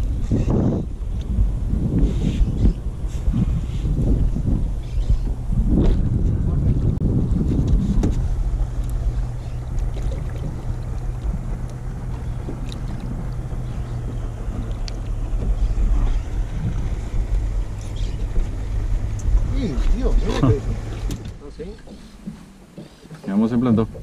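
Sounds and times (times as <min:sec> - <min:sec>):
steady low hum: 0:00.0 - 0:24.0
wind rumbling on microphone: 0:00.0 - 0:24.0.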